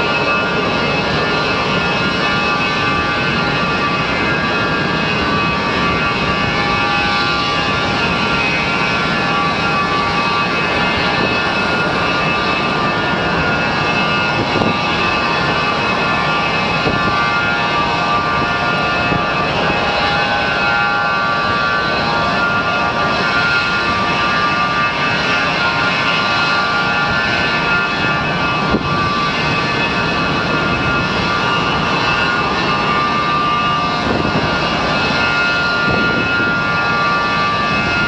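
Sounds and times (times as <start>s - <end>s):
jet engine running: 0.0s - 38.0s.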